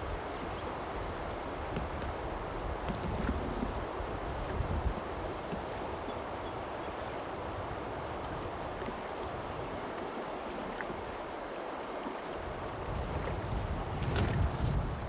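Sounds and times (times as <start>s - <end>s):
water rushing around boat: 0.0s - 15.0s.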